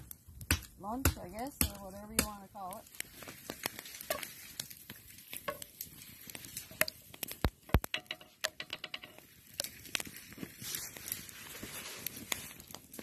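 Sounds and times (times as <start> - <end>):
meat popping and crackling in pan: 0.0 - 13.0.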